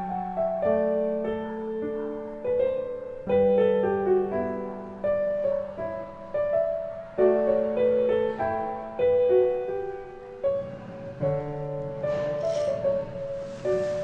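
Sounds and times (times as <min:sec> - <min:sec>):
slow piano melody: 0:00.0 - 0:14.0
soft hiss: 0:00.0 - 0:14.0.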